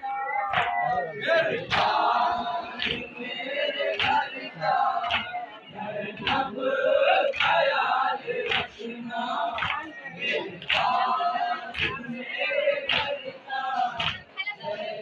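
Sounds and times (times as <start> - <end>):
men chanting in unison: 0.8 - 15.0.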